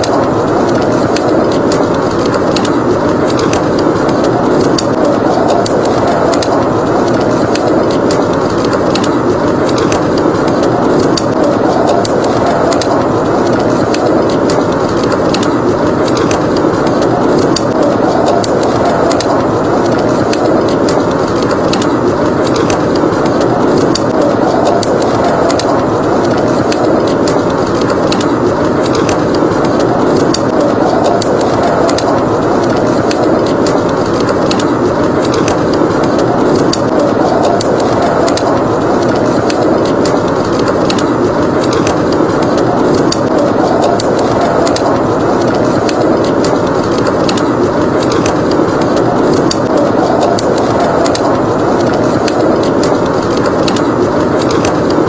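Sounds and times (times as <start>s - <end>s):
howling blizzard wind: 0.0s - 55.0s
wood fire crackling: 0.0s - 55.0s.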